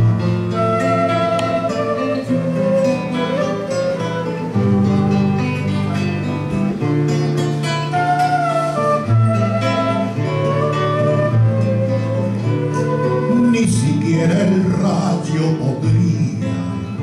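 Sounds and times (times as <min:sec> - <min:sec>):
acoustic guitars plucking chords: 0:00.0 - 0:17.0
wind instrument melody: 0:00.0 - 0:17.0.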